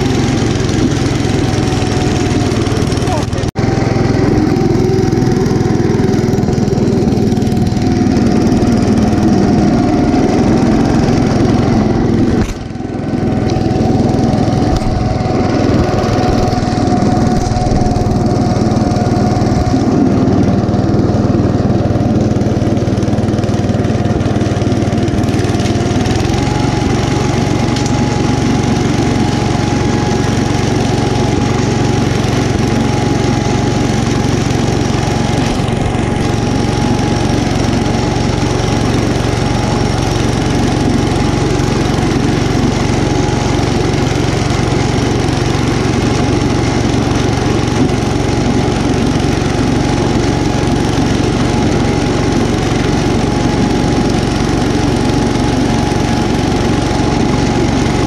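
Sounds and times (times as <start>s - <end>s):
single-cylinder engine running: 0.0s - 58.0s.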